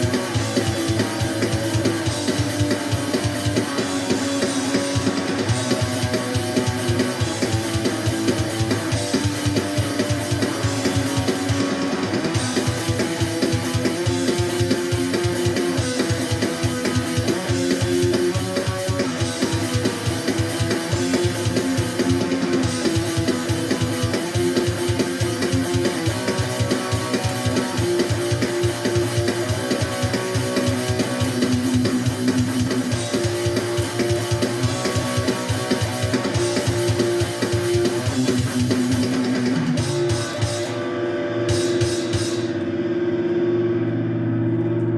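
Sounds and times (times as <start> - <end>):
drum kit beat: 0.0 - 43.6
strummed guitar: 0.0 - 44.9.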